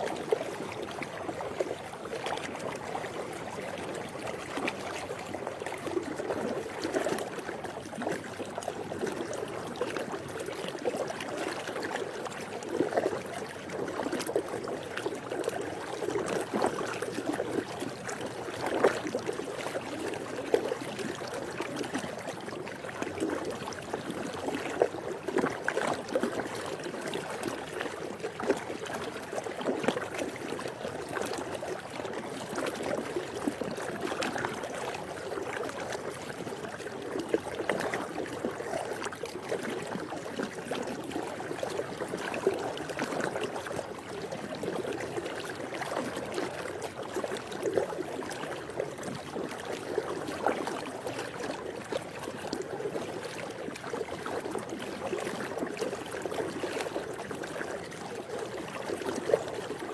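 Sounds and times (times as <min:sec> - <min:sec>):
pool water lapping and sloshing: 0:00.0 - 0:59.9.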